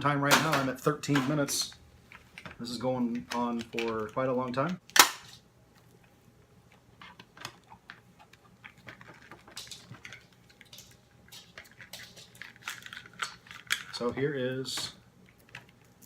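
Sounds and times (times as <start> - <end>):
hands handling plastic packaging: 0.4 - 16.0.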